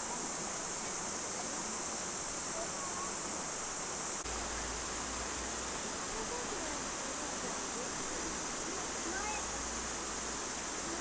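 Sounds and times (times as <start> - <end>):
cicada chorus drone: 0.0 - 11.0.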